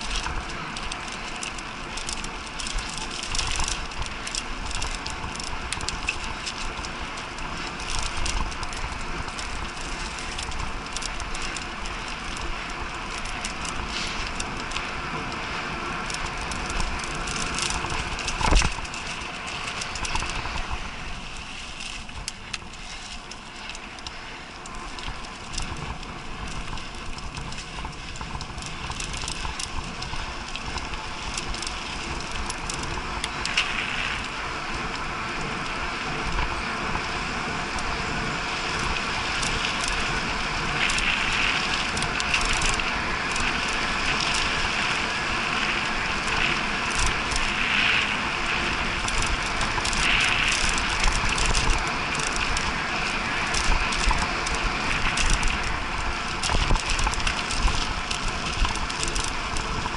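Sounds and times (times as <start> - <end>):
bike rattling and clicking: 0.0 - 59.9
bike tyres on dirt: 0.0 - 59.9.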